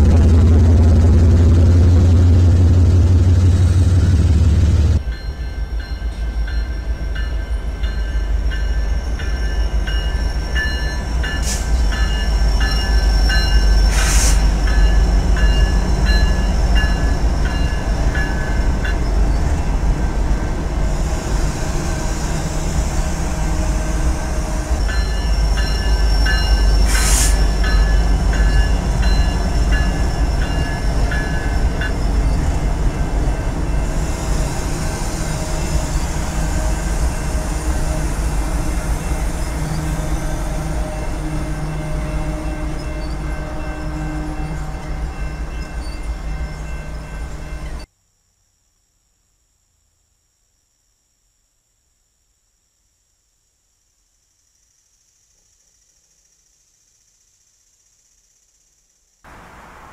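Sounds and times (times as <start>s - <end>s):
train rumbling past: 0.0s - 47.9s, 59.3s - 59.9s.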